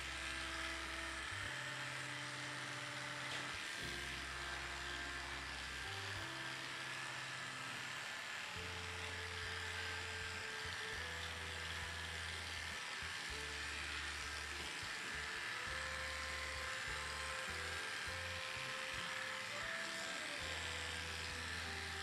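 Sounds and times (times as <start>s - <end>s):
background music with low notes: 0.0s - 22.0s
electric clippers buzzing: 0.0s - 22.0s.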